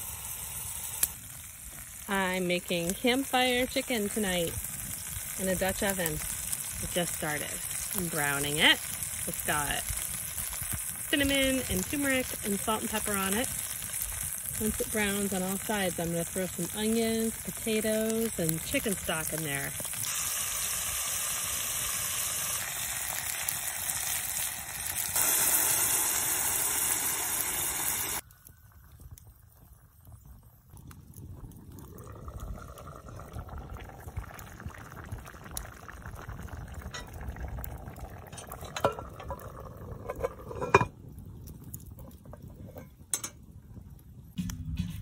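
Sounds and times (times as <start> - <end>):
onions sizzling in a pot: 0.0 - 28.7, 31.8 - 43.4
covered pot bubbling: 0.0 - 45.0.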